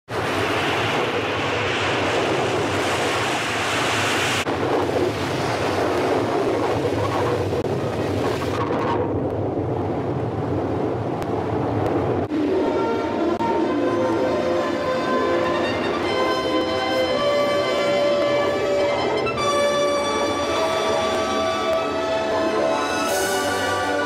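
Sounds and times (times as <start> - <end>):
sea water rushing off ship hull: 0.1 - 24.0.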